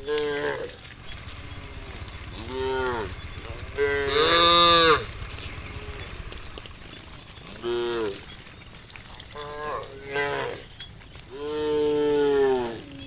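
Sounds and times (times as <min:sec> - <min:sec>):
cattle mooing: 0:00.0 - 0:08.4, 0:09.2 - 0:10.7, 0:11.3 - 0:13.0.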